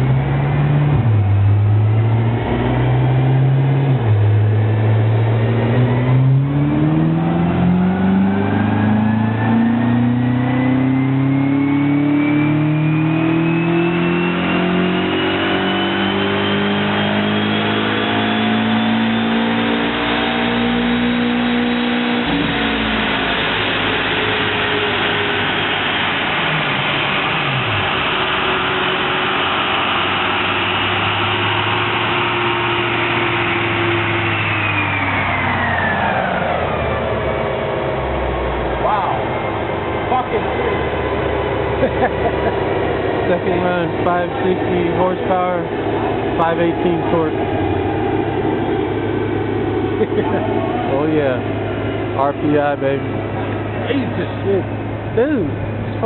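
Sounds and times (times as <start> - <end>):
car engine full-throttle dyno pull: 0.0 - 56.0.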